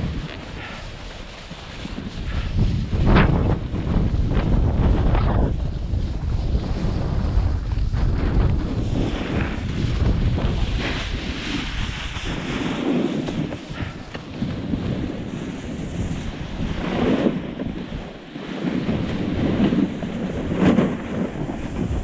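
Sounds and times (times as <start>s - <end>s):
skis hissing and scraping on snow: 0.0s - 22.0s
wind buffeting microphone: 0.0s - 22.0s.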